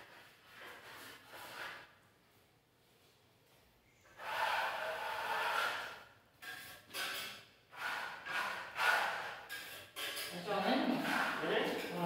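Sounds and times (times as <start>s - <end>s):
steel trowel scraping wall: 0.0s - 2.0s, 4.1s - 12.0s.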